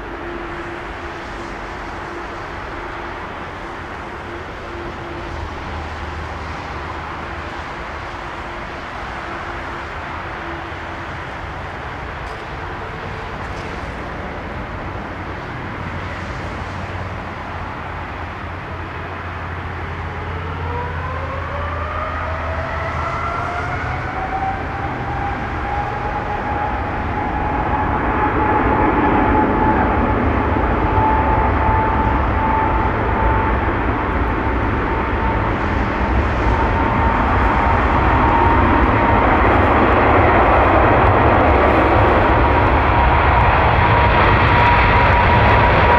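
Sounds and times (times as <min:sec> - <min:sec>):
jet engines spooling up: 0:00.0 - 0:45.9.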